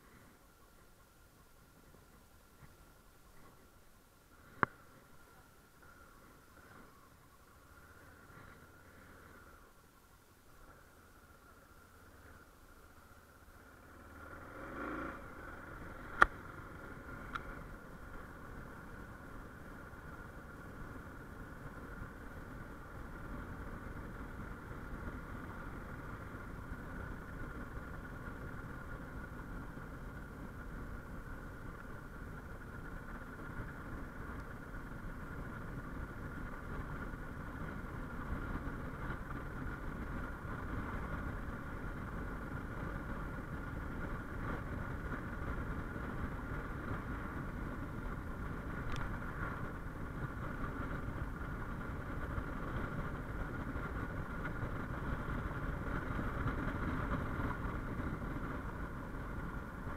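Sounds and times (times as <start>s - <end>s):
motorcycle engine running: 0.0s - 59.9s
road and wind rumble: 0.0s - 59.9s.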